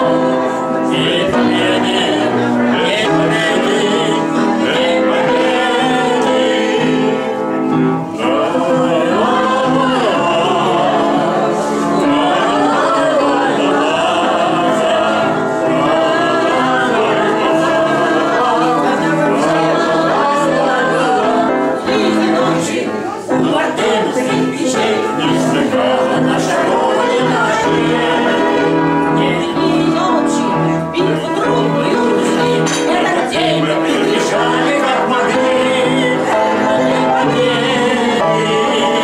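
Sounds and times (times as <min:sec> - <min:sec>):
elderly man singing: 0:00.0 - 0:07.4, 0:08.0 - 0:39.0
upright piano accompaniment: 0:00.0 - 0:39.0.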